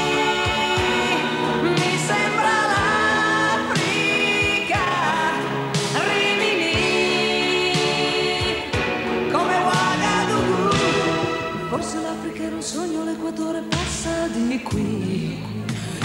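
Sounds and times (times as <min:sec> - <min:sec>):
woman singing: 0:00.0 - 0:15.8
pop band backing: 0:00.0 - 0:16.0.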